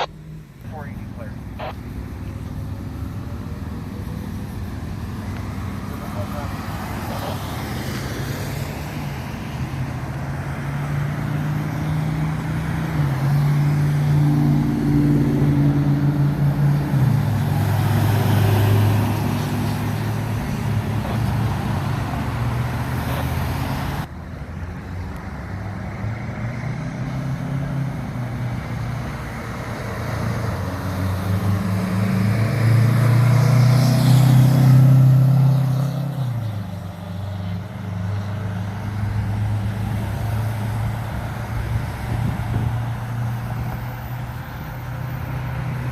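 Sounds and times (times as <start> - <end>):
traffic noise: 0.0 - 45.9.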